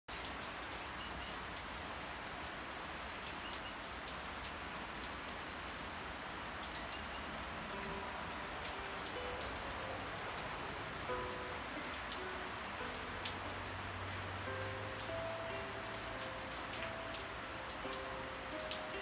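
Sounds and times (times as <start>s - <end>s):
rain drops ticking: 0.1s - 19.0s
steady rain hiss: 0.1s - 19.0s.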